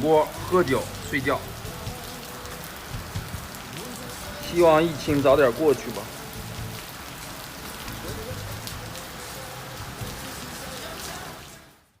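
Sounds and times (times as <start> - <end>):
water drips: 0.0 - 11.2
steady rain falling: 0.0 - 12.0.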